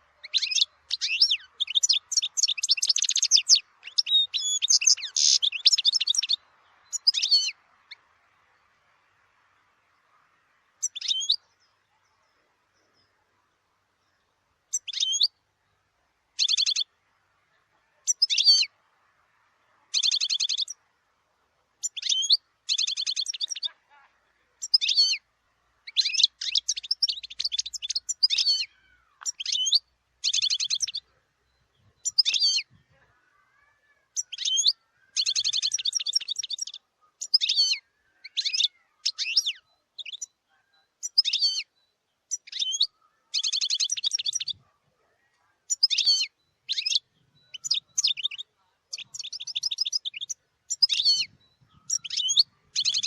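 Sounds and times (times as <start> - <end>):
finch twittering and trilling: 0.0 - 8.1, 10.8 - 13.1, 14.7 - 15.4, 16.4 - 16.9, 18.0 - 18.7, 19.9 - 20.8, 21.8 - 23.9, 24.6 - 53.0.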